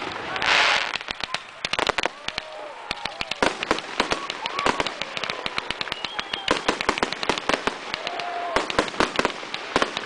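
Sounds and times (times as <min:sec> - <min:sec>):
fireworks bangs and crackling: 0:00.0 - 0:10.0.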